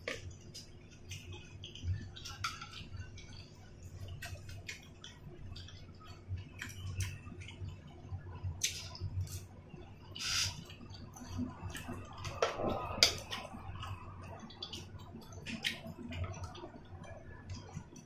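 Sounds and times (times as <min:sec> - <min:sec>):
faint low hum: 0:00.0 - 0:18.0
person chewing wetly: 0:00.0 - 0:18.0.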